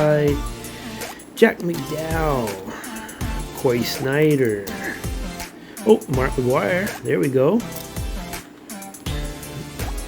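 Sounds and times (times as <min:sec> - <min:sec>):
background music with drums: 0:00.0 - 0:10.0.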